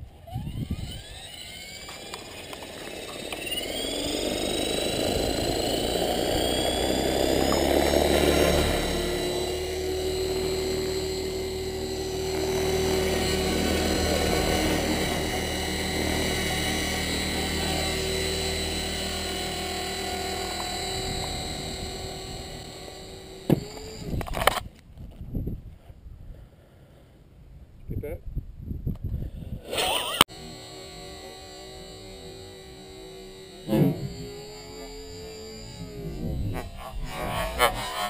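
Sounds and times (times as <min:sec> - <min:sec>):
helicopter rotor whoosh: 0:00.0 - 0:24.5, 0:29.5 - 0:38.0
electric motor whine: 0:00.0 - 0:24.7, 0:29.5 - 0:38.0.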